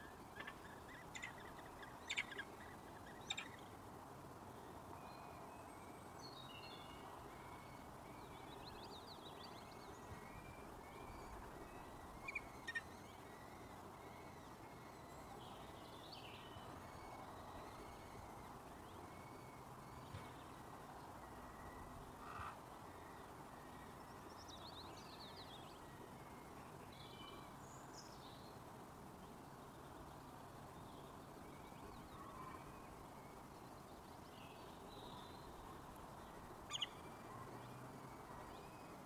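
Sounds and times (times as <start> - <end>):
faint bird chirps: 0.0 - 3.8, 4.5 - 28.6, 29.3 - 39.0
steady outdoor hiss: 0.0 - 39.0.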